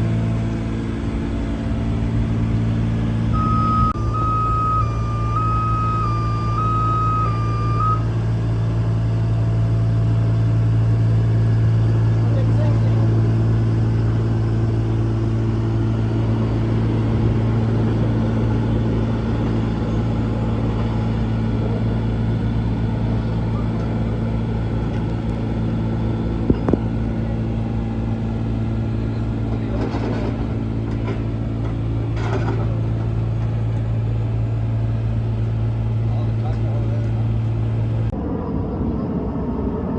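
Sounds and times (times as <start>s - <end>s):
dump truck engine droning: 0.0s - 39.9s.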